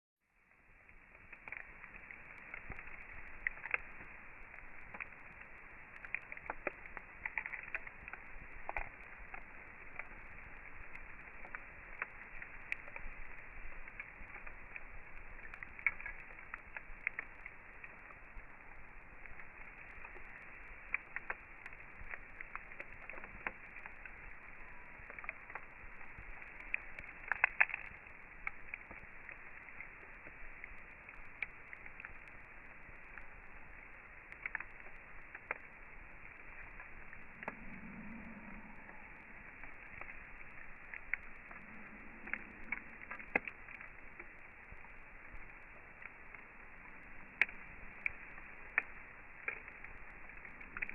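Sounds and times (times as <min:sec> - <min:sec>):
campfire crackling and popping: 0:00.2 - 0:50.9.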